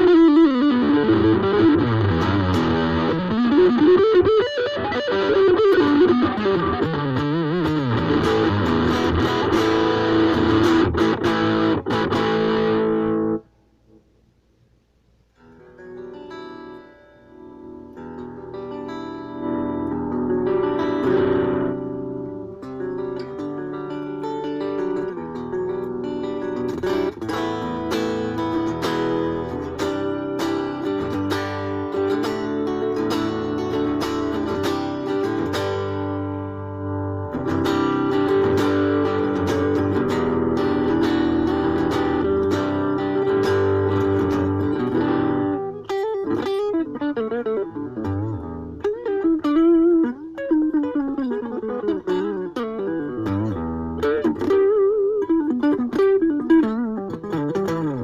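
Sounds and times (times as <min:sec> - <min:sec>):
electric guitar chords and notes: 0:00.0 - 0:13.4, 0:15.4 - 0:58.0.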